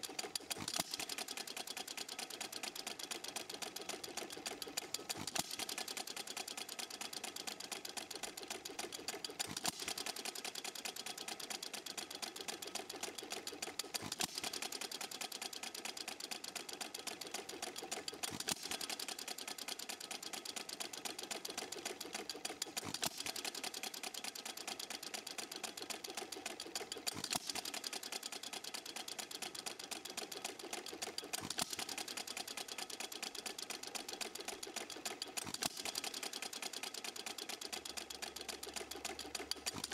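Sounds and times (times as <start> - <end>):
hit-and-miss engine ticking: 0.0 - 39.9.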